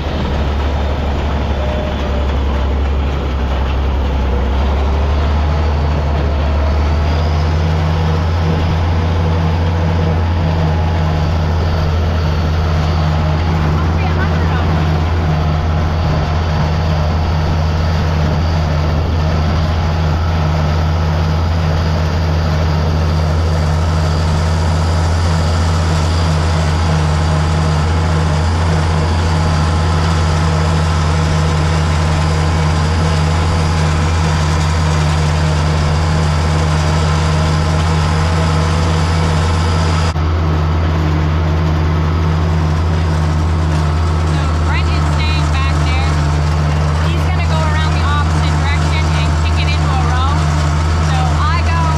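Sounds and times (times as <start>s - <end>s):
tractor engine droning: 0.0s - 51.9s.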